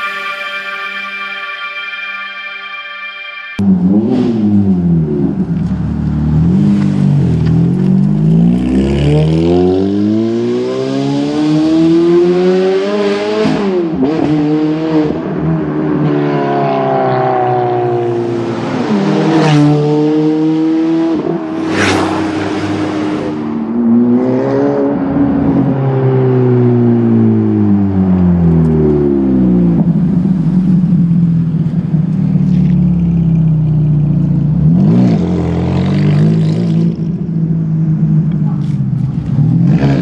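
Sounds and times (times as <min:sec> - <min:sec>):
car engine accelerating through gears: 0:03.6 - 0:40.0.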